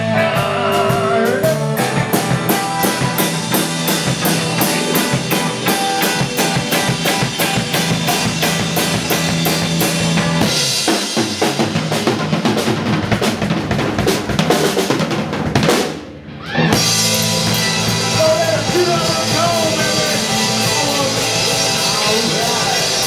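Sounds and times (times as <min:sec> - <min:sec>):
electric guitar: 0:00.0 - 0:14.8, 0:16.0 - 0:23.0
drum kit and cymbals: 0:00.0 - 0:23.0.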